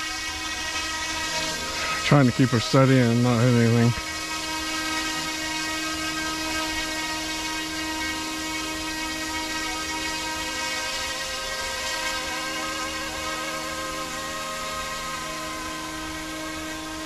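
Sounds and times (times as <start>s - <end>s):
toy helicopter motor whine: 0.0s - 17.0s.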